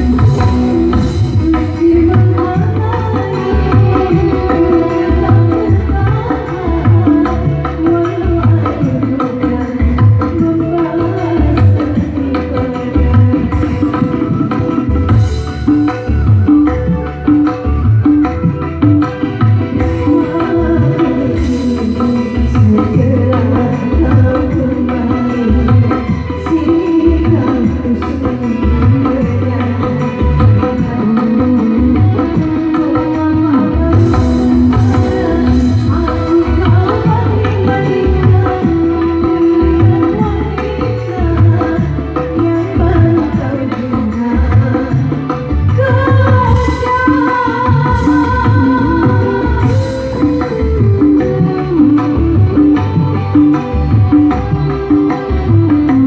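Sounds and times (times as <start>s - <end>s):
hand drums beating: 0.0s - 56.0s
live band through loudspeakers: 0.0s - 56.0s
pulsing bass line: 0.0s - 56.0s.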